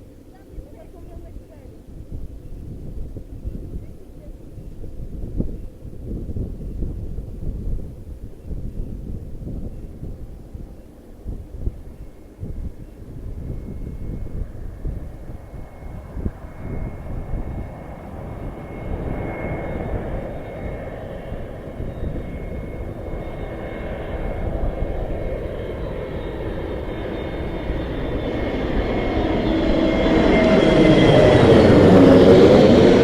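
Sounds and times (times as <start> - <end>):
airplane engine noise: 0.0 - 33.0.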